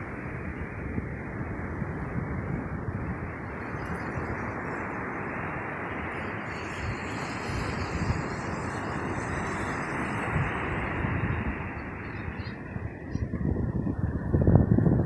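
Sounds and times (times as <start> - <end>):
surf at the shore: 0.0 - 15.0
wind: 0.0 - 15.0
wind gusting on microphone: 0.0 - 15.0.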